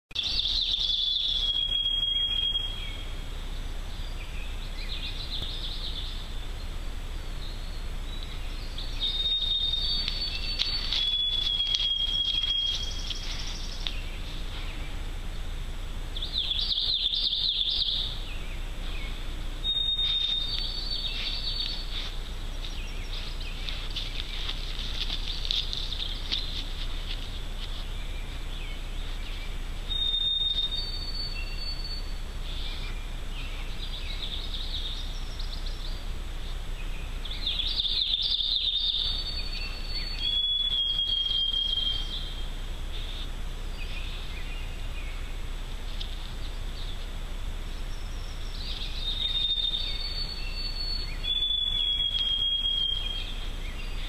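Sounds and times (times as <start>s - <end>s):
songbirds whistling: 0.1s - 3.2s, 7.3s - 15.1s, 16.1s - 54.0s.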